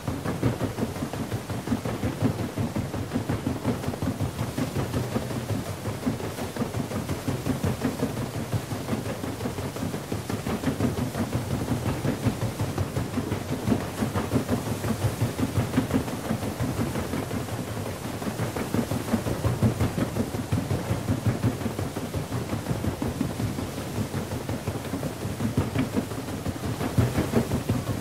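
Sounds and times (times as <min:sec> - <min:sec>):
paddle wheels churning water: 0:00.0 - 0:28.0.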